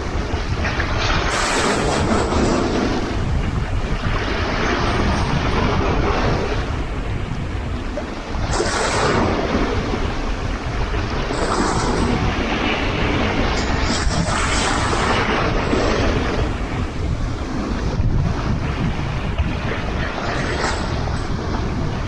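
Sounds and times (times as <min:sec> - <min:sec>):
sea waves breaking: 0:00.0 - 0:22.0
wind rumble on microphone: 0:00.0 - 0:22.0.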